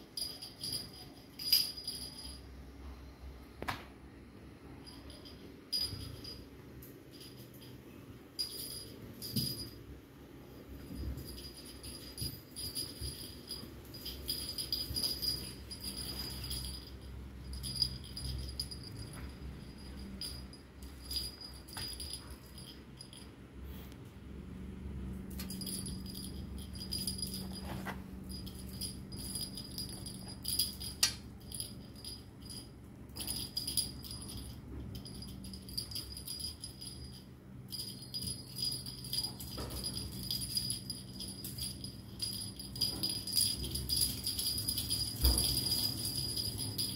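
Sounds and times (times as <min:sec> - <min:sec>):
cat toy bell jingling: 0:00.0 - 0:02.5, 0:04.8 - 0:23.4, 0:25.2 - 0:46.9.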